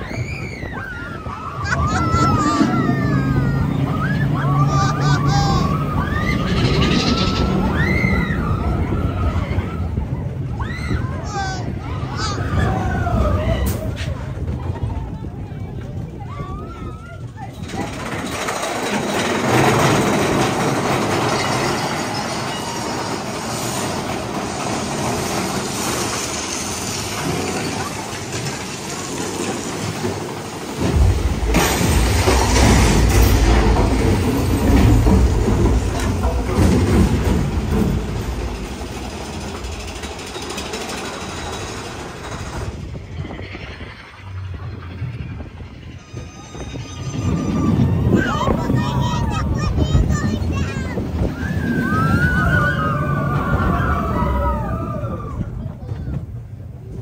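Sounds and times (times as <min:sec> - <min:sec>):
roller coaster wheels on rails: 0:00.0 - 0:57.0.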